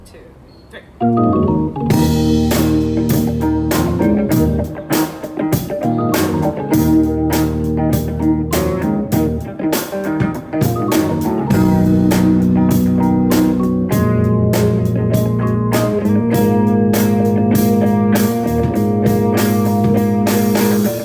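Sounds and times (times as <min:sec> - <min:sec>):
bass guitar: 0:01.0 - 0:21.0
guitar: 0:01.0 - 0:21.0
drum kit beat: 0:01.1 - 0:21.0.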